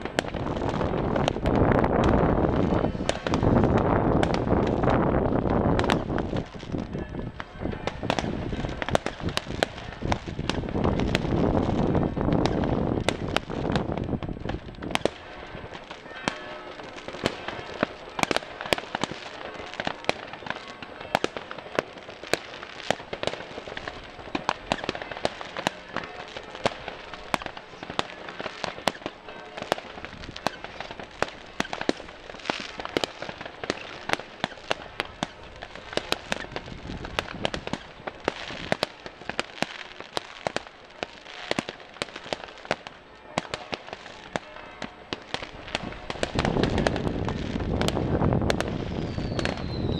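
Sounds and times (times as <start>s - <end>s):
firework bangs and crackles: 0.0s - 49.9s.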